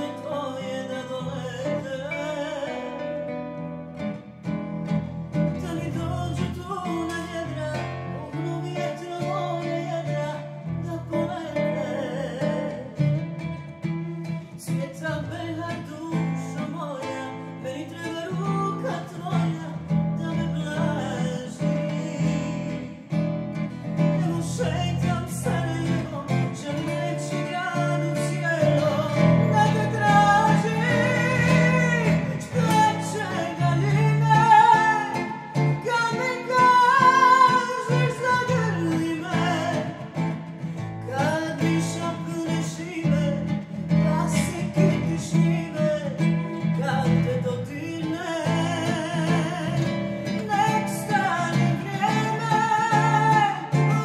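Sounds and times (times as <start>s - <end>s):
woman singing: 0.0s - 3.3s, 5.6s - 54.0s
plucked acoustic guitar: 0.0s - 54.0s.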